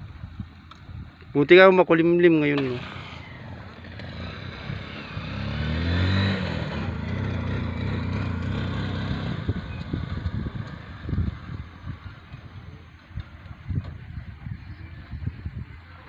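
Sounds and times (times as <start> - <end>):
motorcycle sidecar passing: 2.5 - 16.0.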